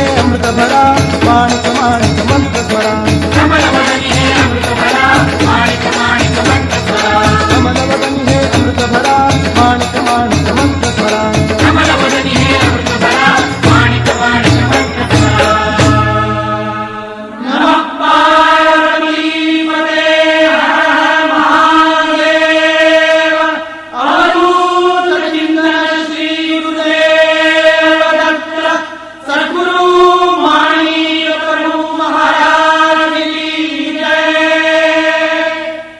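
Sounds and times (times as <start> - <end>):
devotional chanting: 0.0 - 35.9.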